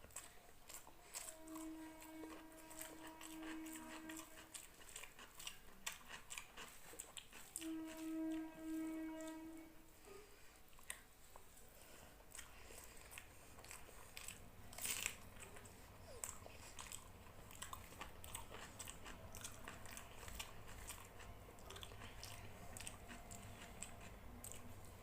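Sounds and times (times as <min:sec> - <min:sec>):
close-up chewing: 0:00.0 - 0:09.4, 0:10.0 - 0:25.0.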